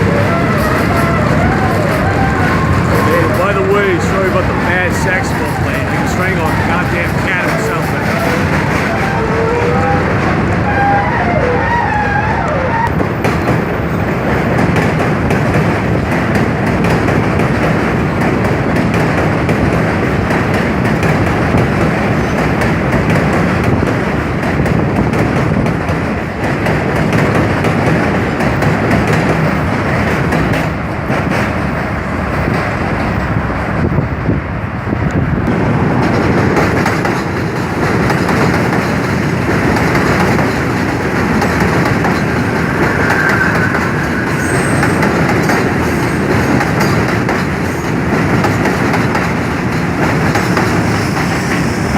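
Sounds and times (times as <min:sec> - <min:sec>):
subway train wheels rumbling on rails: 0:00.0 - 0:51.9.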